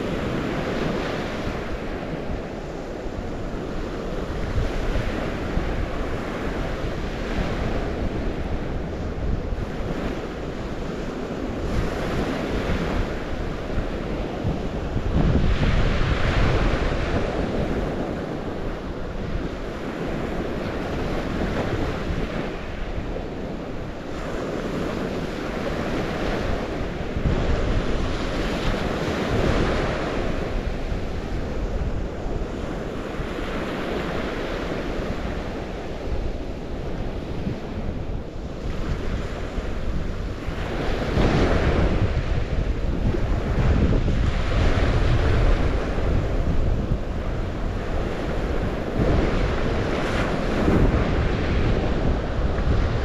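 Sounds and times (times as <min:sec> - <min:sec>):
wind rumbling on microphone: 0:00.0 - 0:53.0.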